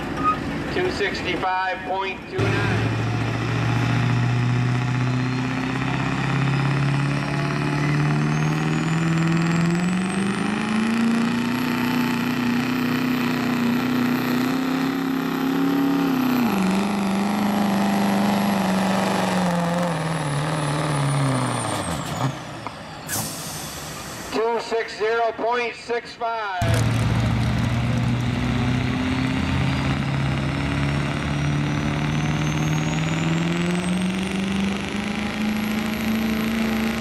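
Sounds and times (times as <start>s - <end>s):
diesel truck engine at full throttle: 0.0s - 37.0s.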